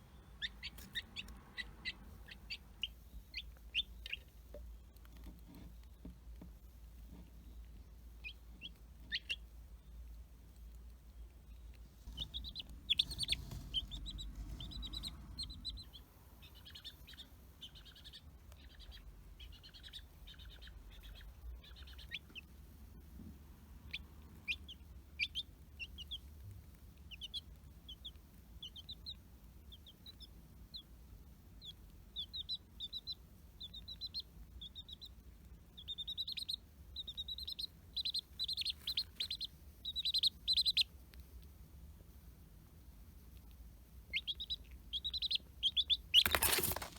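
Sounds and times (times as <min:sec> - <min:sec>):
chick peeping: 0:00.0 - 0:46.9.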